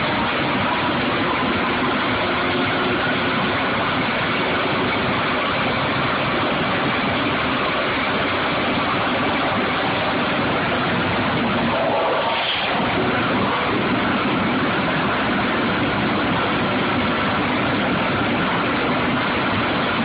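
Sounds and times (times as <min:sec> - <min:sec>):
drilling rig machinery running: 0:00.0 - 0:20.0.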